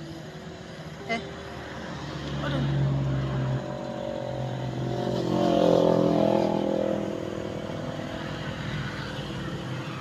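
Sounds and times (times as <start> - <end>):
low hum of traffic: 0.0 - 10.0
motorcycle passing: 1.0 - 10.0.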